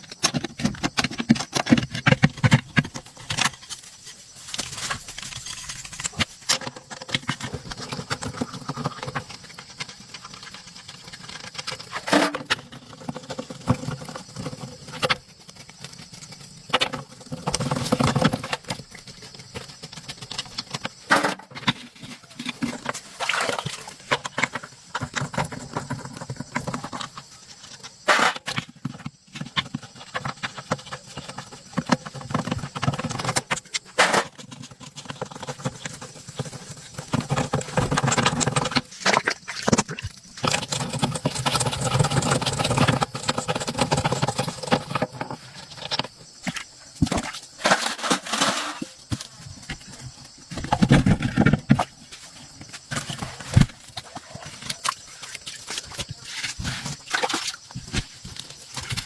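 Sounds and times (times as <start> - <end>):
scraping: 0.2 - 59.0.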